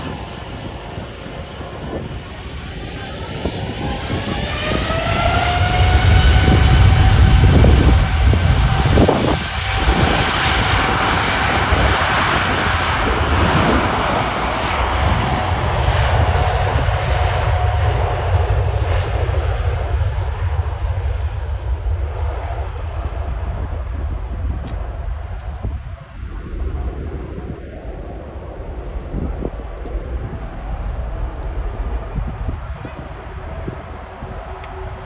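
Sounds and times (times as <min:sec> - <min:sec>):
deep jet roar: 0:00.0 - 0:35.0
jet engine whine: 0:00.0 - 0:35.0.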